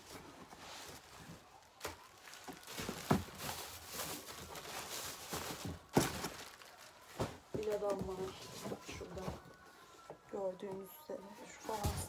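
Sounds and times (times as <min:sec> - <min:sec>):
cardboard and plastic rustling: 0:00.0 - 0:10.8, 0:11.4 - 0:12.0.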